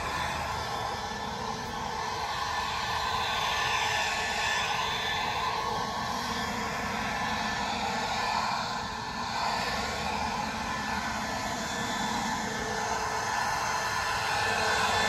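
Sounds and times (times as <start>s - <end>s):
leaf blower rushing air: 0.0s - 15.0s.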